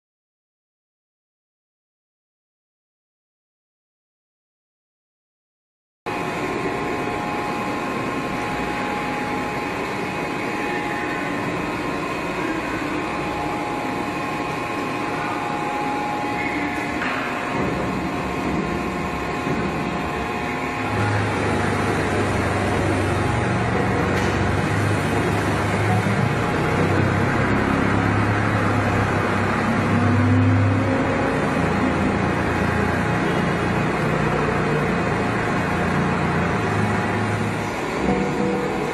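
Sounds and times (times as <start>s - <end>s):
heavy workshop machinery humming: 6.1s - 38.9s.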